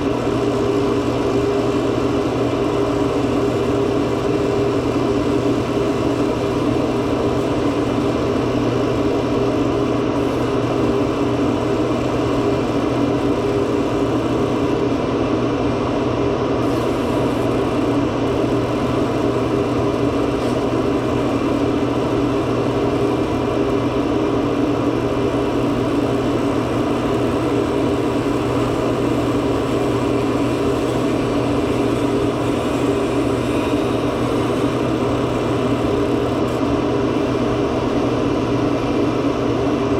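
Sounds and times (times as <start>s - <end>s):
machine hum with hiss: 0.0s - 39.9s.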